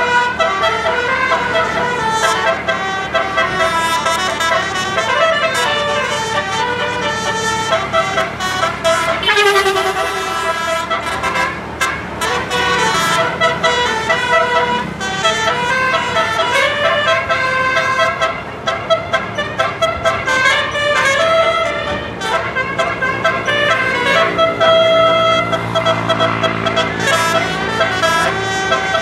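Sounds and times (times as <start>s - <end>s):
musical air horns: 0.0s - 29.0s.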